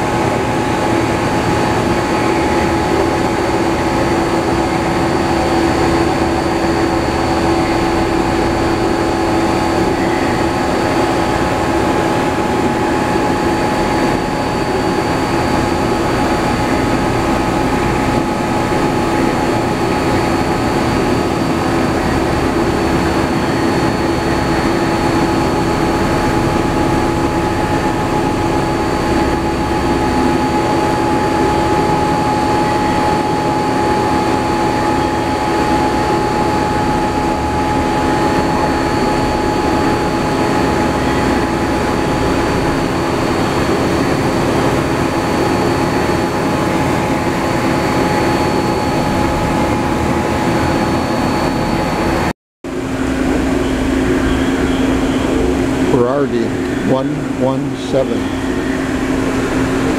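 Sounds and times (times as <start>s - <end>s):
machining center humming and whining: 0.0s - 59.9s.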